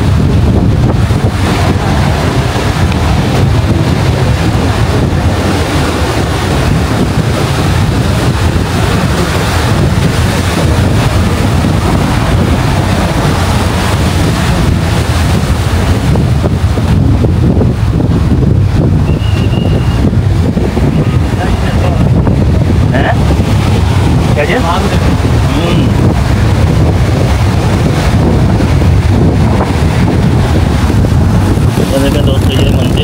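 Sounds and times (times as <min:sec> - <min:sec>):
strong wind buffeting microphone: 0:00.0 - 0:33.0.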